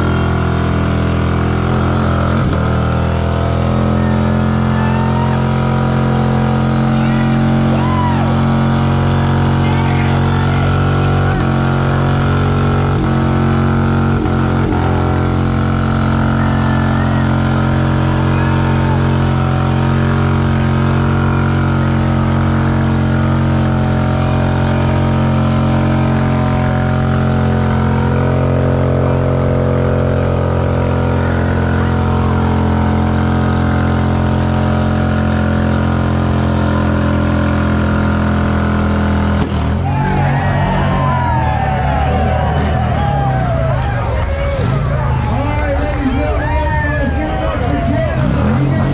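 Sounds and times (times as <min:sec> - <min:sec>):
car engine revving hard: 0:00.0 - 0:46.2, 0:46.9 - 0:48.9.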